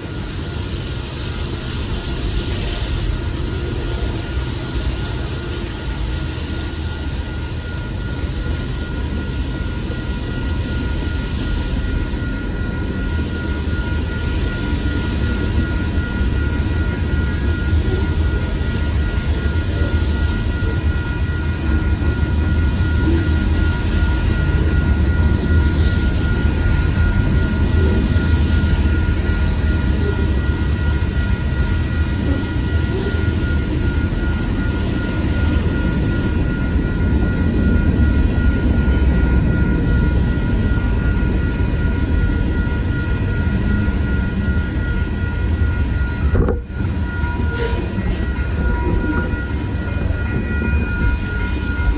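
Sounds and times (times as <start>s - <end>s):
freight train rumbling past: 0.0s - 51.9s
steady high tones: 0.0s - 51.9s.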